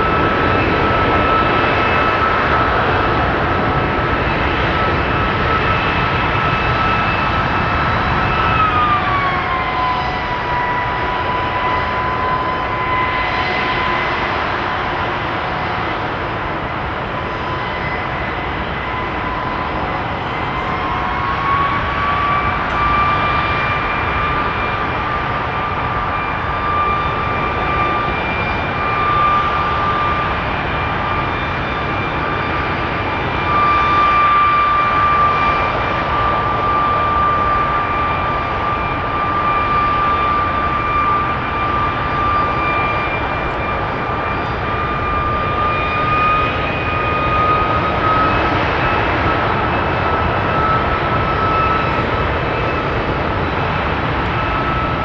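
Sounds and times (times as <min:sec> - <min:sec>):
jet engine rush and whine: 0:00.0 - 0:55.0.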